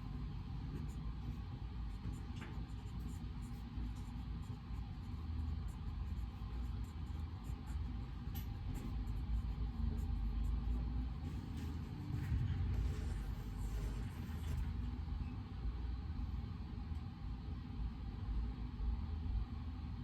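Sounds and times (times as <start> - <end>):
low white noise rumble: 0.0 - 20.0.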